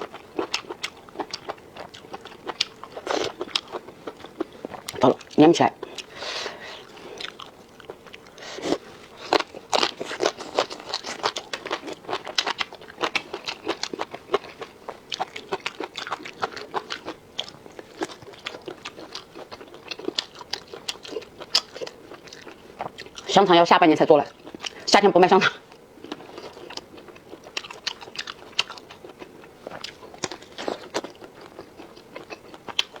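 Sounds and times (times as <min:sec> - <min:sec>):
person chewing and crunching food: 0:00.0 - 0:33.0.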